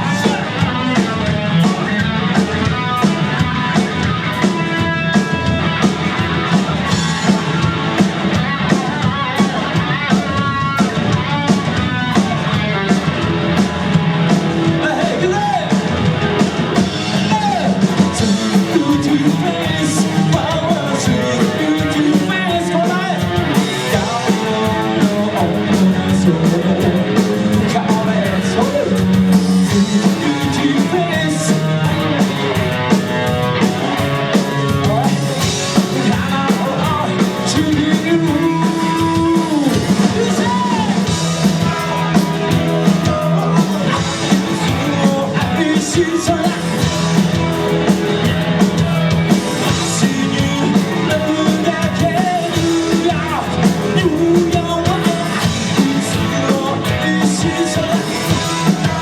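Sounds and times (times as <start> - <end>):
person singing: 0.0 - 5.5, 16.8 - 59.0
bass guitar: 0.0 - 59.0
drum kit: 0.0 - 59.0
electric guitar: 0.0 - 59.0.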